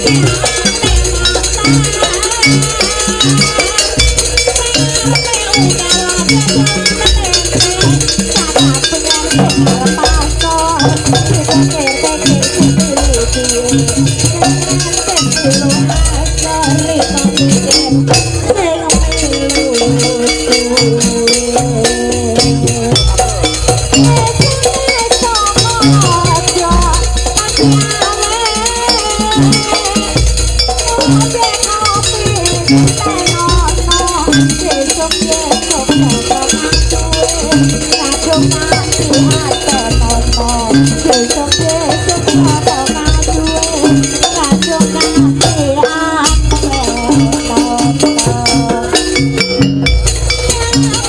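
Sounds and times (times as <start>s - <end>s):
hand drums steady beat: 0.0s - 51.0s
jingling metal percussion: 0.0s - 51.0s
wavering melody line: 0.0s - 51.0s.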